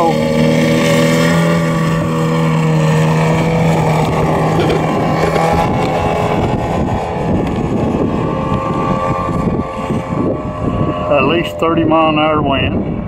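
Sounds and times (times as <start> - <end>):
model plane engine droning: 0.0 - 13.0
wind noise on microphone: 0.0 - 13.0.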